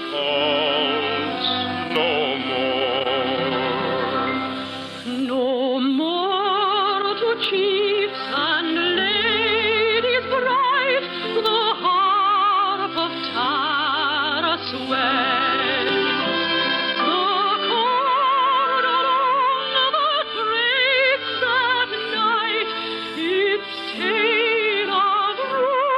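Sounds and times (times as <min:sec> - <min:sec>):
operatic singing with vibrato: 0:00.0 - 0:25.9
orchestral accompaniment: 0:00.0 - 0:25.9.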